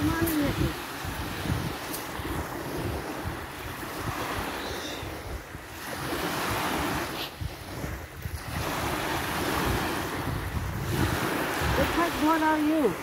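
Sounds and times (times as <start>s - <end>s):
waves washing onto beach: 0.0s - 13.0s
wind rumbling on microphone: 0.0s - 13.0s.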